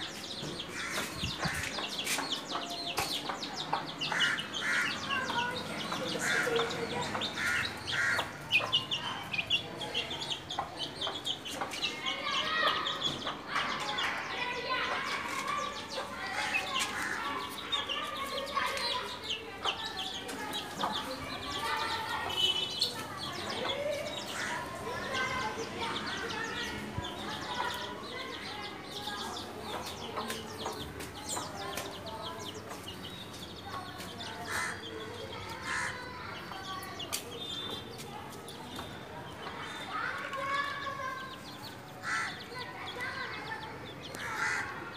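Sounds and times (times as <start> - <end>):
pet birds chirping: 0.0 - 44.9.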